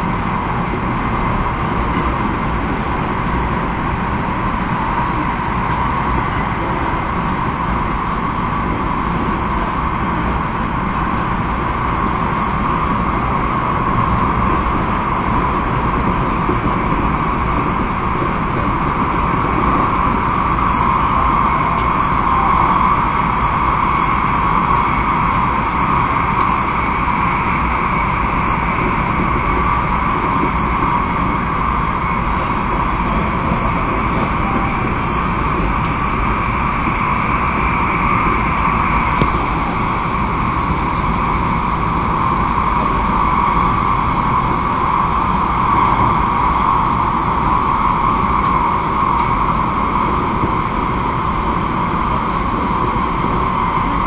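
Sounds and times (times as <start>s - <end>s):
high-speed train rushing hum: 0.0s - 54.0s.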